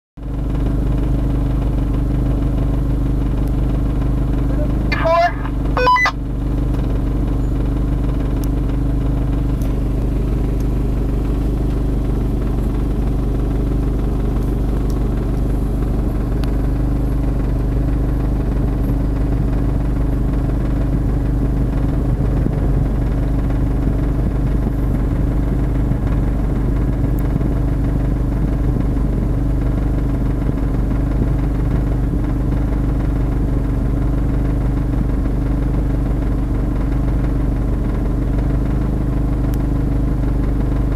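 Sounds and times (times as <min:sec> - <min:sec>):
vehicle engine idling: 0:00.2 - 0:40.9.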